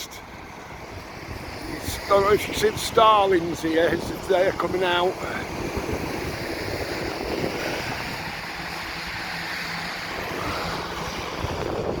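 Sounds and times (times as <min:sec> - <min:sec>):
sea waves washing on shore: 0:00.0 - 0:12.0
wind buffeting microphone: 0:00.0 - 0:12.0.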